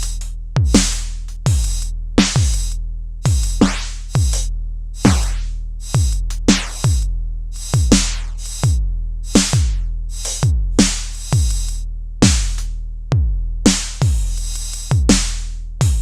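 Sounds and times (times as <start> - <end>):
deep booming kick drum: 0.0 - 16.0
noisy snare and hi-hat hits: 0.0 - 16.0.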